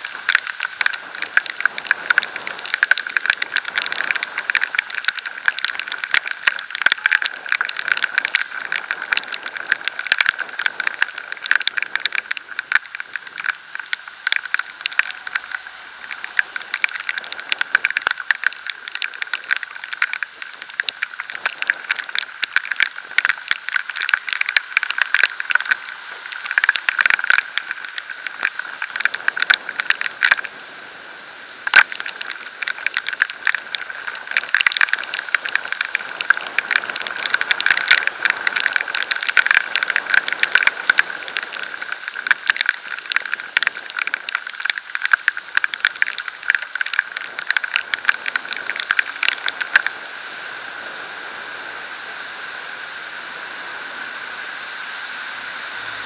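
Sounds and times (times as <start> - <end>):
raindrops striking camera: 0.0 - 56.0
steady hiss: 0.0 - 56.0.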